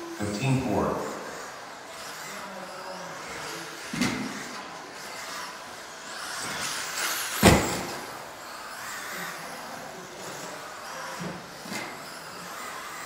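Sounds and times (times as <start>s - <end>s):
toy car motors whining: 0.0s - 13.0s.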